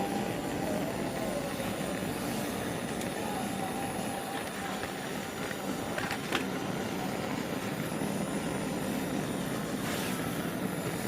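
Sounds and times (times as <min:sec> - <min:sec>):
torch flame hissing: 0:00.0 - 0:11.0.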